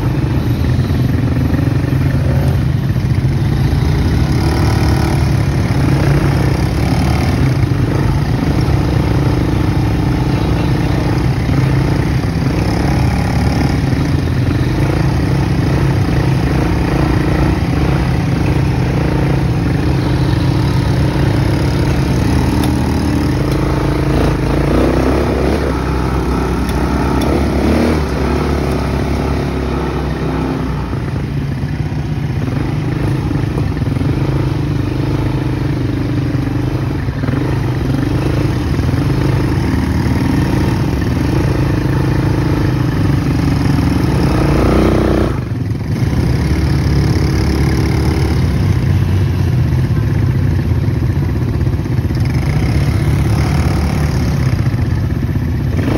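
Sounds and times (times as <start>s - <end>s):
quad bike engines running: 0.0s - 55.9s.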